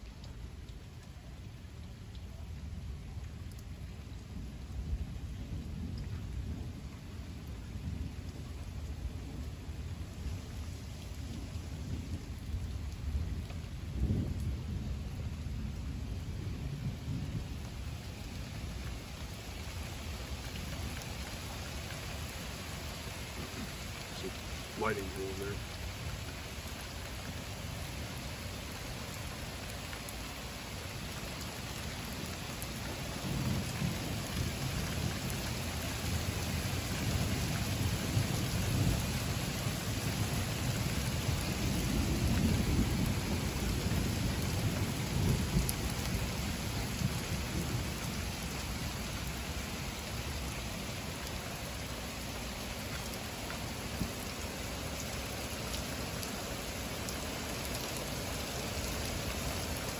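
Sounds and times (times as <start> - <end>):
heavy rain on pavement: 0.0 - 59.9
low rumble of thunder: 1.8 - 52.0.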